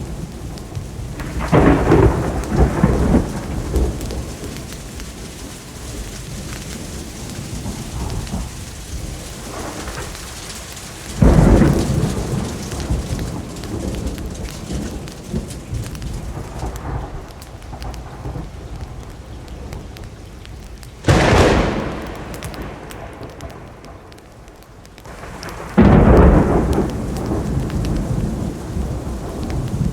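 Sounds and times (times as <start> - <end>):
steady rainfall: 0.0 - 29.9
thunder rolling: 0.0 - 29.9.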